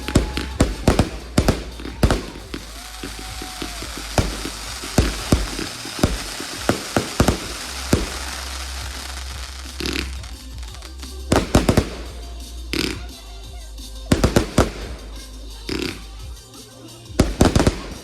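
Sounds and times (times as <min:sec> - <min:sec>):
fireworks popping: 0:00.0 - 0:16.5, 0:17.2 - 0:18.0
fireworks hissing and crackling: 0:00.0 - 0:18.0.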